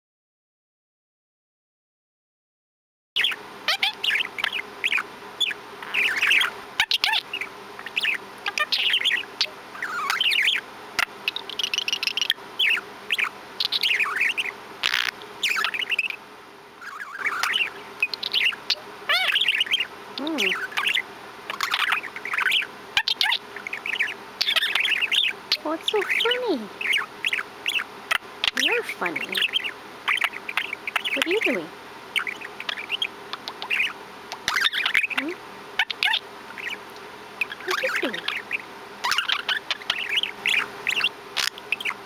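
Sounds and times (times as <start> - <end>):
budgerigar chattering: 3.2 - 16.2, 16.8 - 36.8, 37.4 - 42.0.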